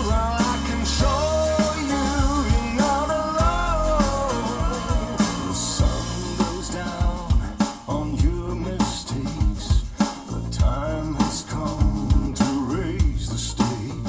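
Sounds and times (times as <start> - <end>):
pop song through car speakers: 0.0 - 14.0.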